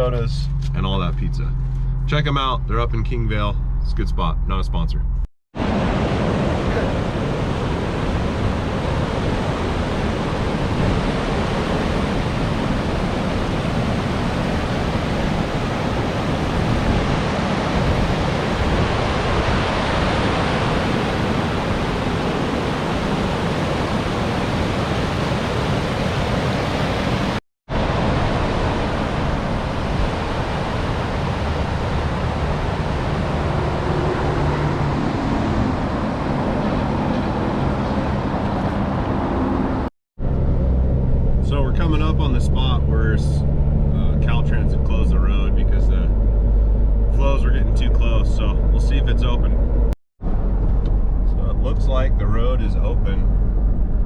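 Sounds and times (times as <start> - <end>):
engine hum: 0.0 - 25.8, 27.7 - 54.0
road and wind noise: 0.0 - 54.0.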